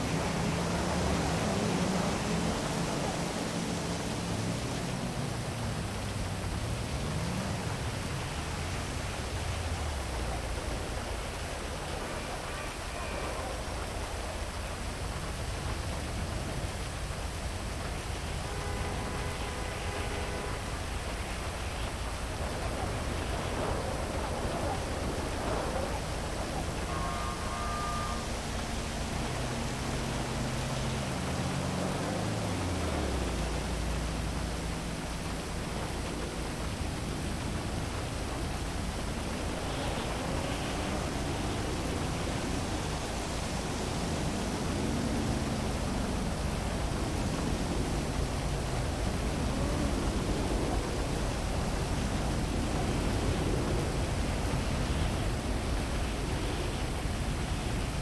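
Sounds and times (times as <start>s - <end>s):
vehicle engine revving: 0.0s - 12.5s, 14.0s - 58.0s
heavy rain: 0.0s - 58.0s
traffic: 0.0s - 58.0s.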